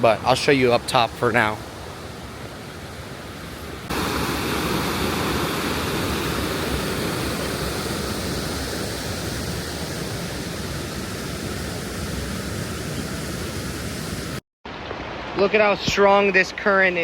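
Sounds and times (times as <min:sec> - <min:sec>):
river water rushing: 0:00.2 - 0:17.0.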